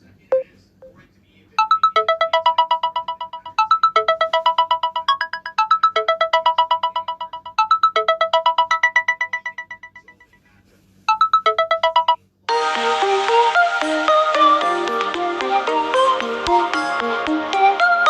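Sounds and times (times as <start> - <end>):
melodic ringtone: 0.3 - 1.0, 1.6 - 10.4, 11.1 - 18.0
pulsed electronic ringtone: 1.6 - 10.4, 11.1 - 18.0.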